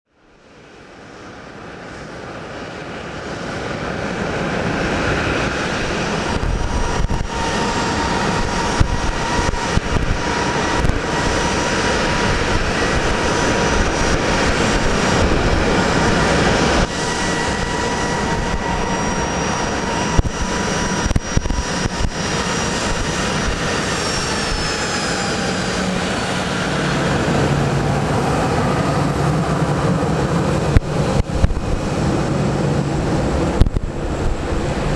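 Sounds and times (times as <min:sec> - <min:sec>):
jet engines whining: 0:00.4 - 0:34.9.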